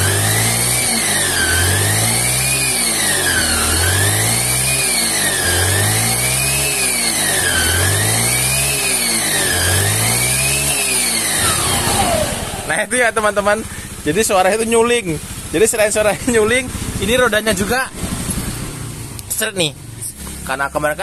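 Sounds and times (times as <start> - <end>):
scooter engine revving: 0.0 - 21.0.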